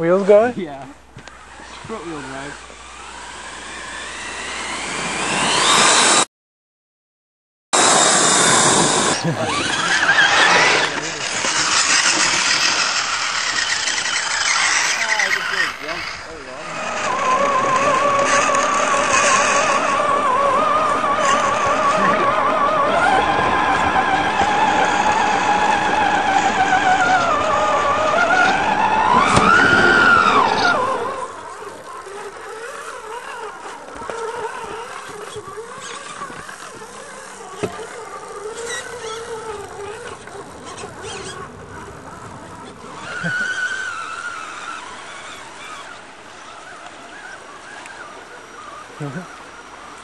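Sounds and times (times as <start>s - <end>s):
toy truck electric motor whine: 1.2s - 6.3s, 7.8s - 50.0s.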